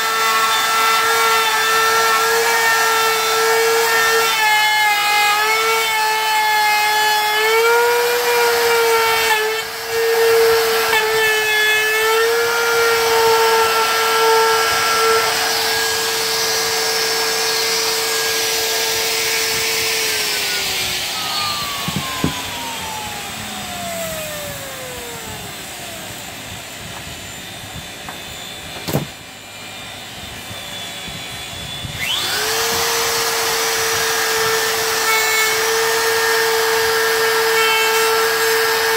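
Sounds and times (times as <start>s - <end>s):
router whining: 0.0s - 38.9s.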